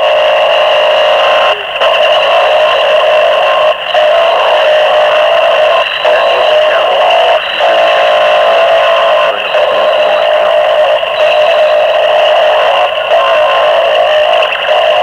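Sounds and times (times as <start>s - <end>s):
harsh distorted noise drone: 0.0s - 15.0s.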